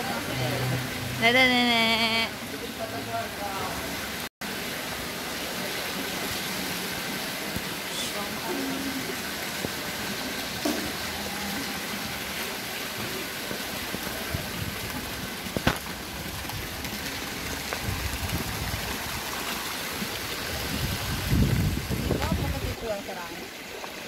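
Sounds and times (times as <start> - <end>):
fountain water splashing: 0.0 - 24.0
spout pouring into pond: 3.9 - 24.0.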